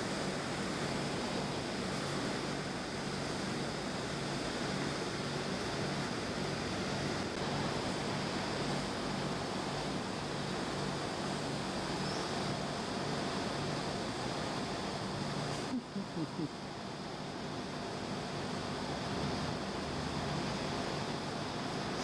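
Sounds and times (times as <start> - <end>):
air conditioner hissing and humming: 0.0 - 22.0.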